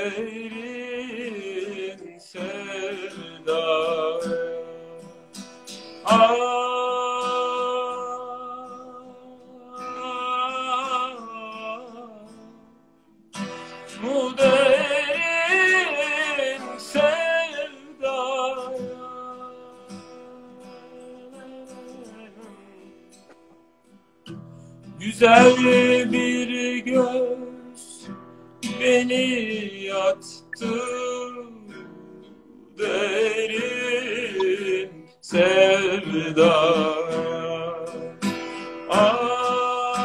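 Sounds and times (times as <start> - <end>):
man singing with vibrato: 0.0 - 12.6, 13.9 - 23.1, 25.0 - 40.0
acoustic guitar: 0.0 - 40.0.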